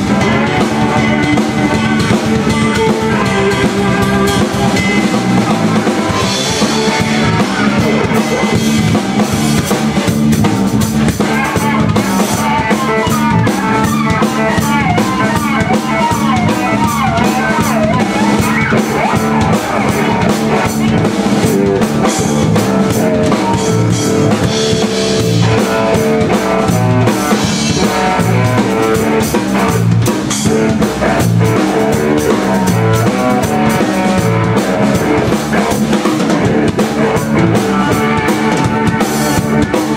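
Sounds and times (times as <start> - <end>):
bass guitar: 0.0 - 39.9
drum kit beat: 0.0 - 39.9
electric guitar lead: 0.0 - 39.9.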